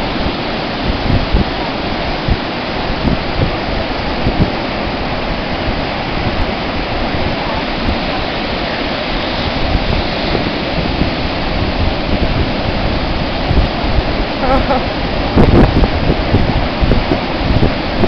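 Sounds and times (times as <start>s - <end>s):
ocean surf roaring: 0.0s - 18.0s
wind buffeting microphone: 0.0s - 18.0s.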